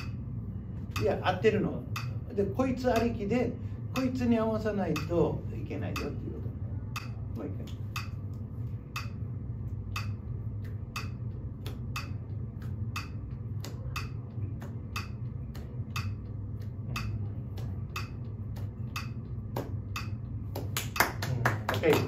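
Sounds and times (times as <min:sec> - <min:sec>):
low hum: 0:00.0 - 0:22.0
metronome ticking: 0:00.9 - 0:21.2.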